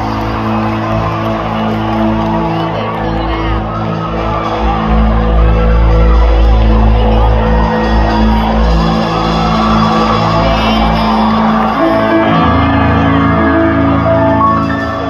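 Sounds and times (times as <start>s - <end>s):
audience shouting and whooping: 0.0s - 15.0s
keyboard chords and bass: 0.0s - 15.0s.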